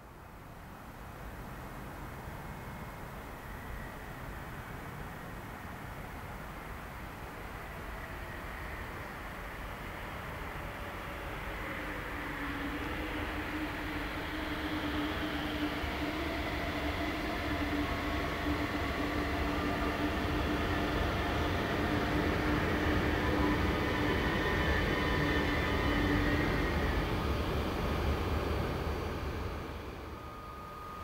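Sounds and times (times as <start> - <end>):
faint high whines: 0.0 - 31.0
distant train rumble: 1.6 - 31.0.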